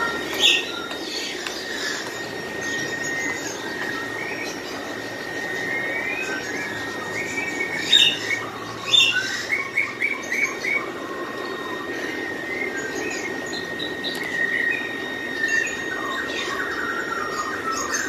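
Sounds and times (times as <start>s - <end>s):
birds chirping: 0.0s - 18.0s
thin steady high tone: 0.0s - 18.0s.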